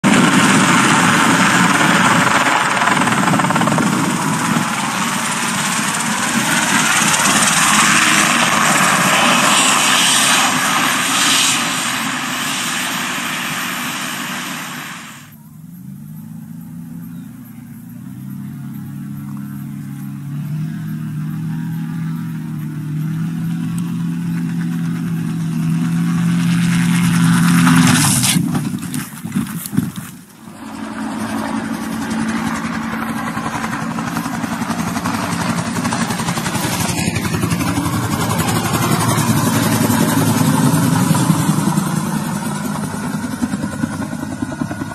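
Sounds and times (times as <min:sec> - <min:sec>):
helicopter rotor and engine: 0:00.0 - 0:44.9.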